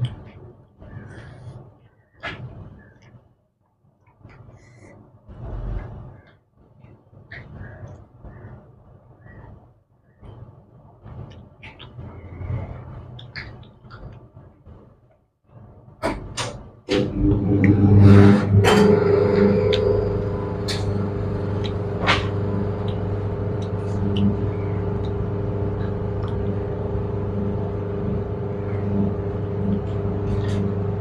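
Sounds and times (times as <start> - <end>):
machine hum with low drone: 0.0 - 3.2, 4.2 - 31.0.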